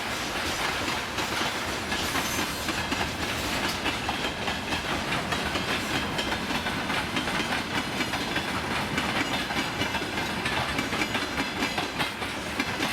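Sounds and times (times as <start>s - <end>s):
train wheels clattering over rails: 0.0s - 12.9s.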